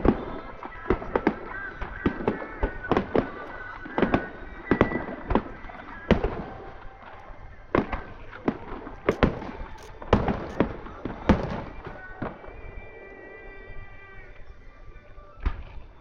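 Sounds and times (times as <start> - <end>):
fireworks banging: 0.0 - 13.0.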